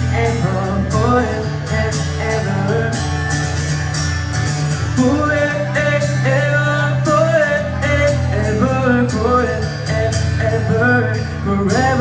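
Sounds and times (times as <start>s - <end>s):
live pop band: 0.0s - 12.0s.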